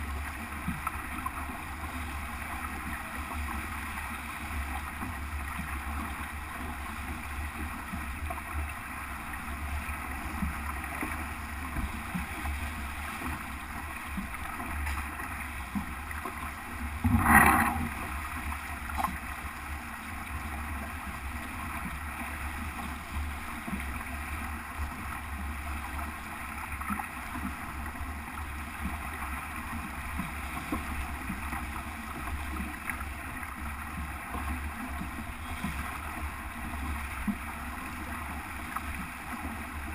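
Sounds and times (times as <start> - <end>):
water rushing along hull: 0.0 - 39.9
wind: 0.0 - 39.9.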